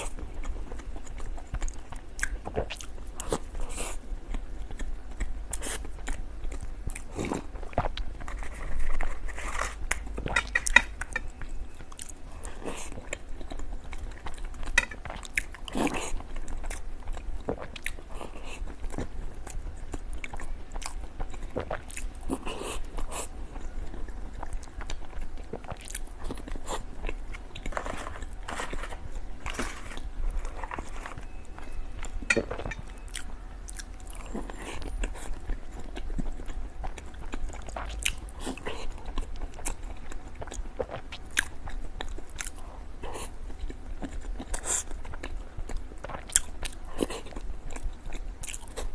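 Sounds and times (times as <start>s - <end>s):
biting and chewing: 0.0s - 48.9s.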